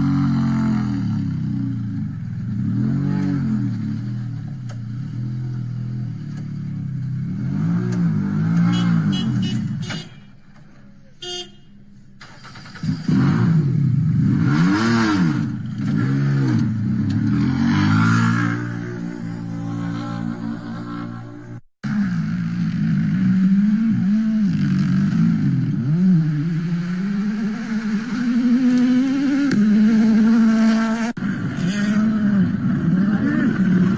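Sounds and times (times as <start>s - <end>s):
rally car engines revving: 0.0s - 33.9s.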